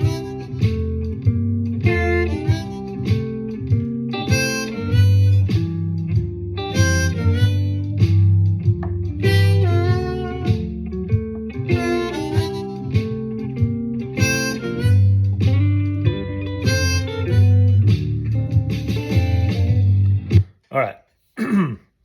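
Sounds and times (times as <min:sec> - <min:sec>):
blues harmonica licks: 0:00.0 - 0:20.3
guitar shuffle backing track: 0:00.0 - 0:20.5.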